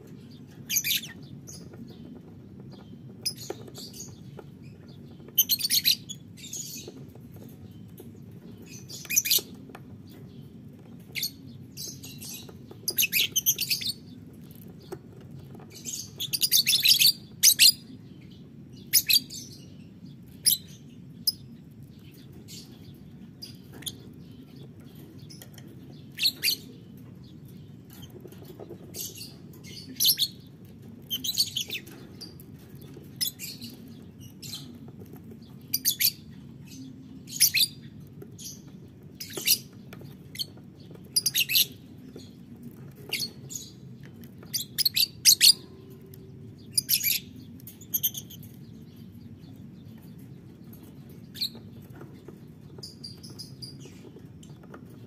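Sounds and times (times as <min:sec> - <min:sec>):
lovebirds chirping: 0:00.0 - 0:55.0
low background hum: 0:00.0 - 0:55.0.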